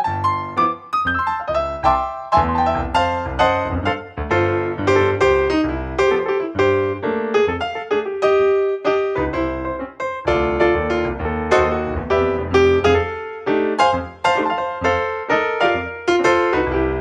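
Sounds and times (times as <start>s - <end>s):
jazz blues piano music: 0.0s - 17.0s.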